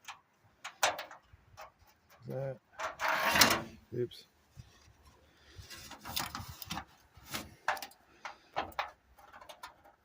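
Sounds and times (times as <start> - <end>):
metal clicks and scrapes: 0.0 - 3.7, 4.9 - 10.0.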